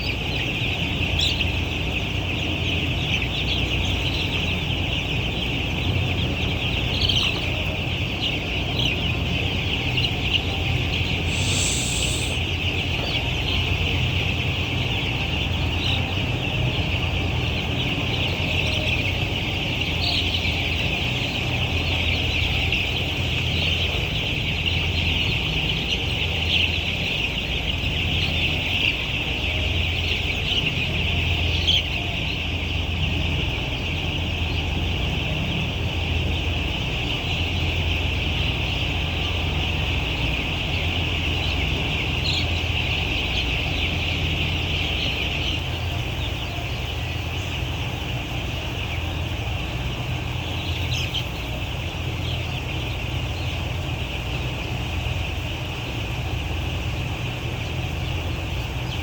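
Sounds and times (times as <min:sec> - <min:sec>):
chickens calling: 0:00.0 - 0:59.0
steady low hum: 0:00.0 - 0:59.0.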